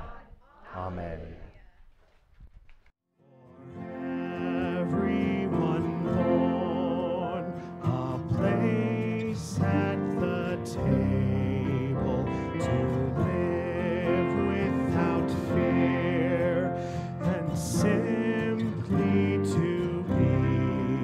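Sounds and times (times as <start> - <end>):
person singing with vibrato: 3.2 - 21.0.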